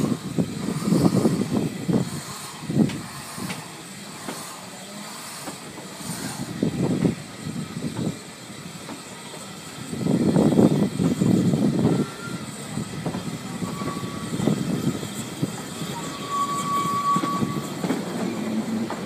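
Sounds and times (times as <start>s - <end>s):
wheel clatter over rail joints: 0.0s - 8.2s, 8.8s - 19.0s
train rumble: 0.0s - 19.0s.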